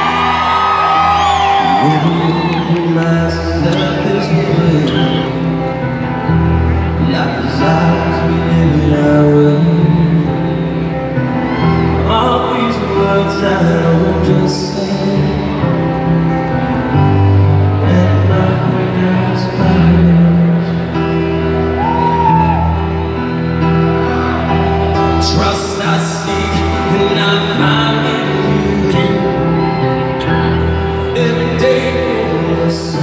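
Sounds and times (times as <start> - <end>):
live rock band: 0.0 - 33.0
man singing: 1.5 - 21.4, 25.0 - 33.0.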